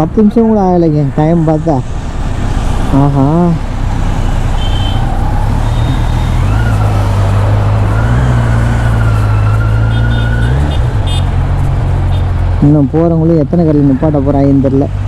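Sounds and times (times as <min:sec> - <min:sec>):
road and wind noise: 0:00.0 - 0:15.0
motorcycle engine running: 0:00.6 - 0:13.8.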